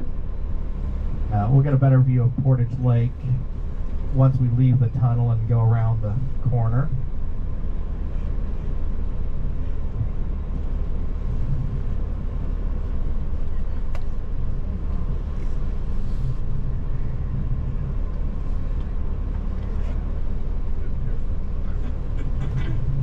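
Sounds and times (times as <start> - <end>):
bus engine low rumble: 0.0 - 23.0.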